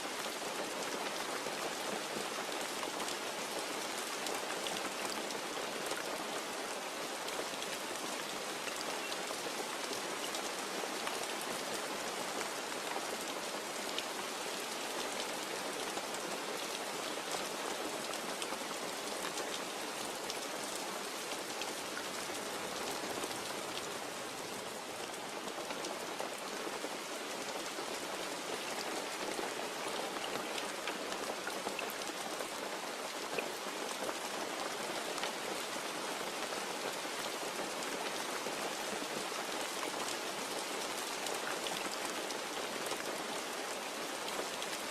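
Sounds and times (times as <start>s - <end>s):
rain pattering: 0.0s - 44.9s.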